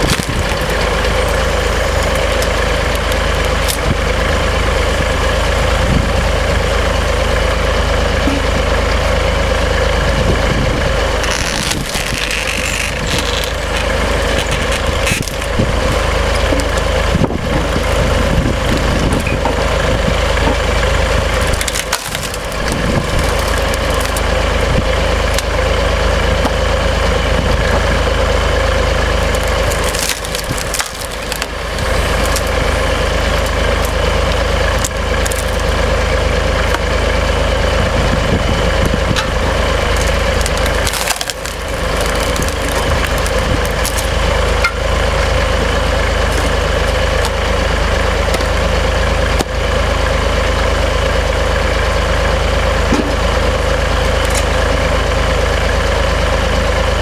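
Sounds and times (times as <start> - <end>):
logs cracking and splintering: 0.0 - 57.0
tractor engine running: 0.0 - 57.0.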